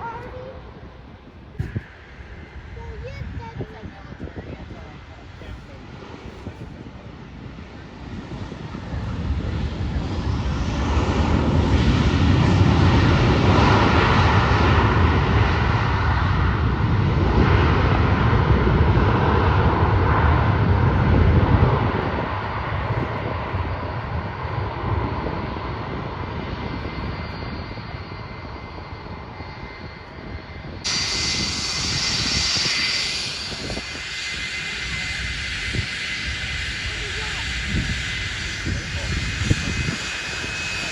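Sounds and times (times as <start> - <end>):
airliner engines passing: 0.0 - 40.9.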